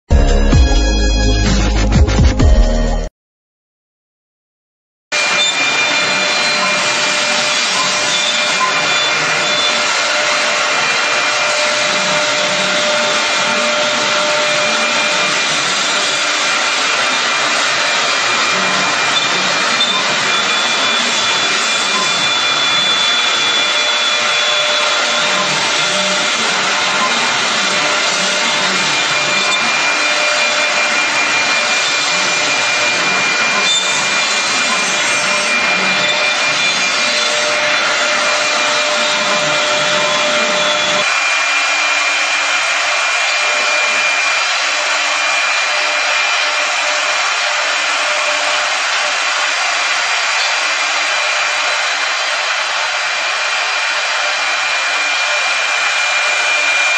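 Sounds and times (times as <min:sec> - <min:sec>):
router cutting wood: 0:05.1 - 0:56.9.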